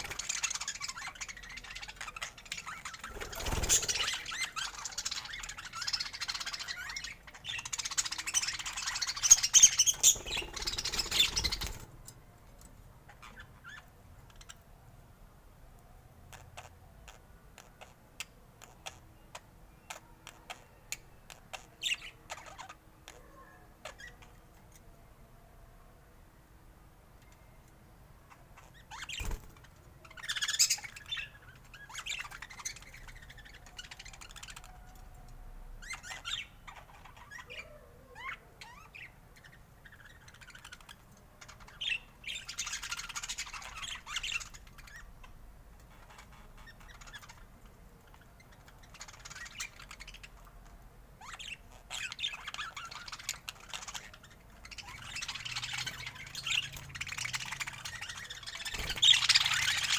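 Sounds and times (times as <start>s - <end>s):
budgerigars chirping and squawking: 0.0s - 12.0s, 13.0s - 14.6s, 16.3s - 24.5s, 28.3s - 35.1s, 35.8s - 59.9s.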